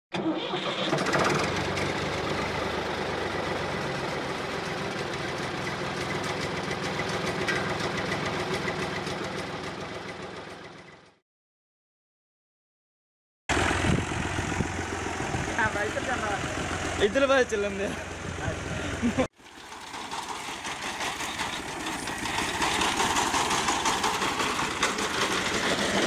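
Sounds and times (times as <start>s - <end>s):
engine idling with knocking: 1.0s - 11.2s, 13.5s - 26.0s.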